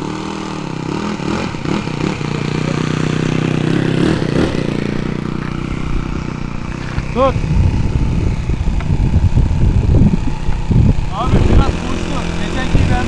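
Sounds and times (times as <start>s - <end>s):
model airplane engine buzzing: 0.0s - 13.0s.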